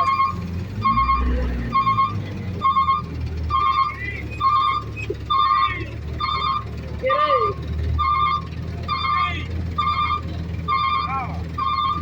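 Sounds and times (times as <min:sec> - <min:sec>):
engine rumbling: 0:00.0 - 0:12.0
reversing alarm beeping: 0:00.0 - 0:12.0.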